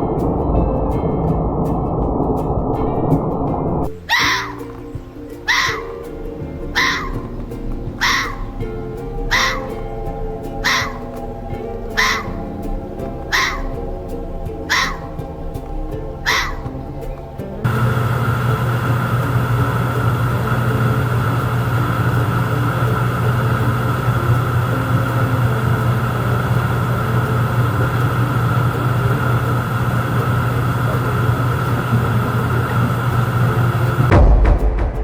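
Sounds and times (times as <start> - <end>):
low mechanical hum: 0.0 - 34.3.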